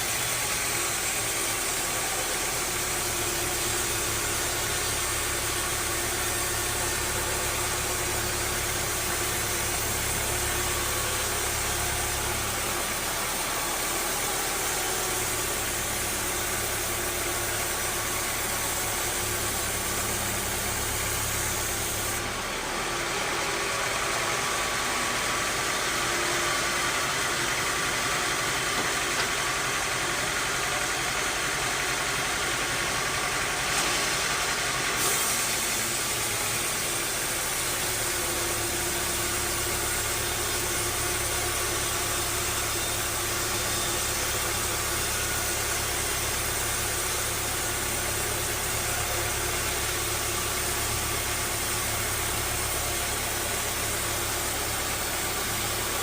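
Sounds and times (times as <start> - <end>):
bandsaw sawmill running: 0.0 - 56.0.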